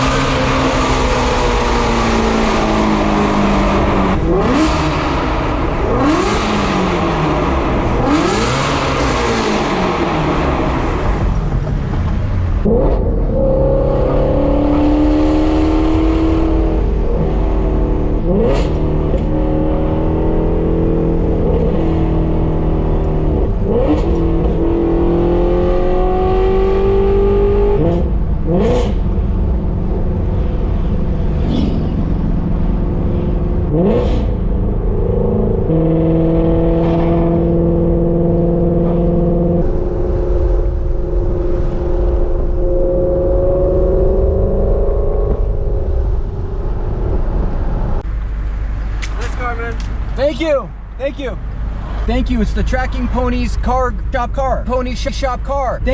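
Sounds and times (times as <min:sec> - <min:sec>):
loud car engine accelerating: 0:00.0 - 0:50.2.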